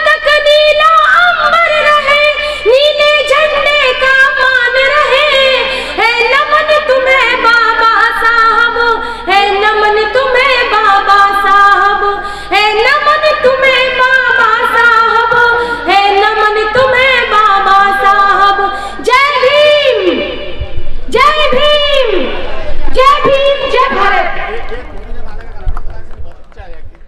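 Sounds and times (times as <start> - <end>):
woman singing into a microphone: 0.0 - 24.4.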